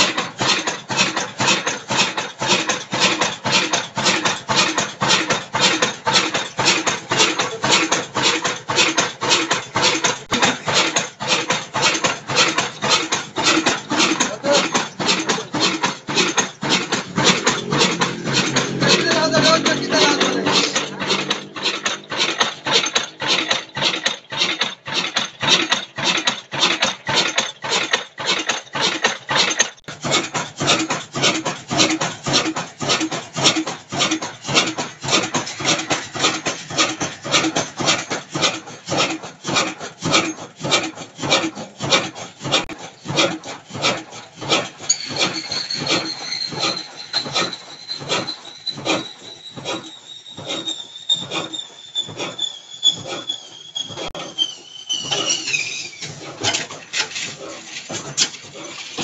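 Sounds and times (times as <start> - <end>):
stationary engine running slowly: 0.0 - 59.0.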